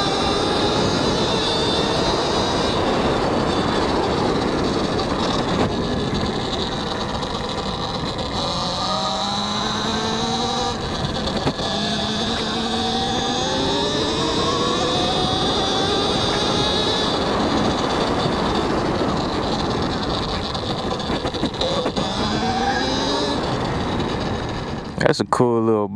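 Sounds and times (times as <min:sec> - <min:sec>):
electric motor whine: 0:00.0 - 0:25.2
tyre noise: 0:00.0 - 0:25.2
wind noise on helmet mic: 0:00.0 - 0:25.3.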